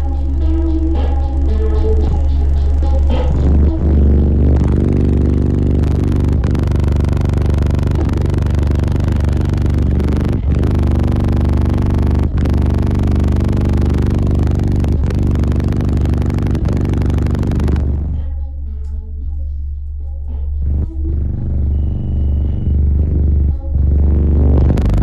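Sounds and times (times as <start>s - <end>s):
buzzy low subwoofer drone: 0.0s - 25.0s.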